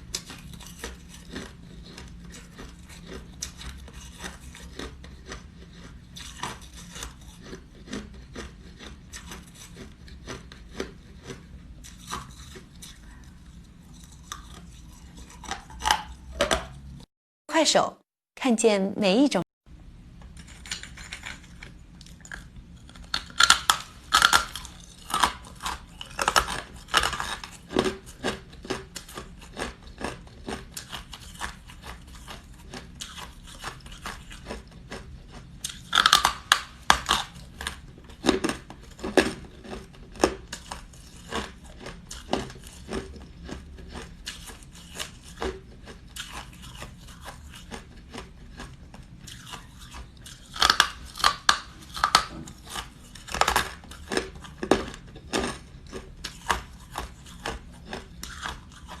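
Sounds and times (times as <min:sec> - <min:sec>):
ice being chewed: 0:00.0 - 0:17.0, 0:20.3 - 0:59.0.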